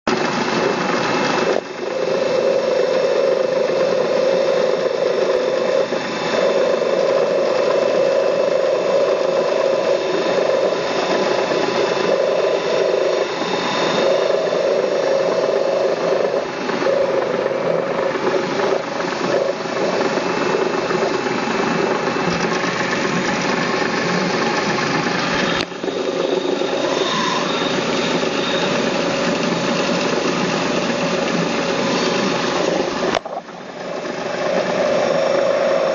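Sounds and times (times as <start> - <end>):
grinding machine running: 0.1 - 35.9.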